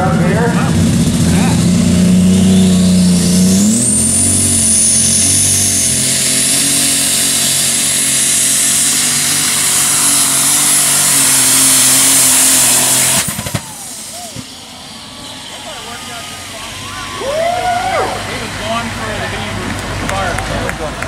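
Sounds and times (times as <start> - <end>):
diesel engine at full throttle: 0.0 - 21.0
high turbo whine: 0.0 - 21.0.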